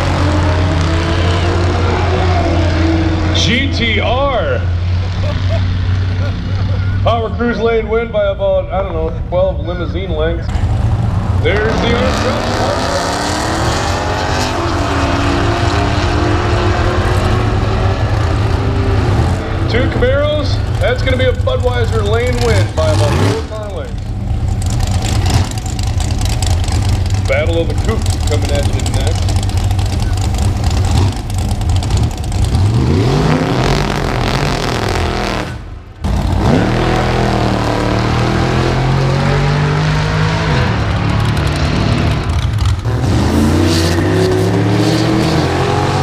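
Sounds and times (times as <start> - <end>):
race cars at full throttle: 0.0 - 46.0.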